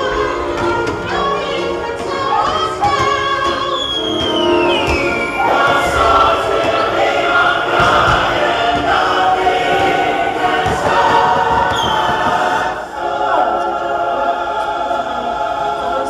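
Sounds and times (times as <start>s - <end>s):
chorus singing with music: 0.0s - 16.0s.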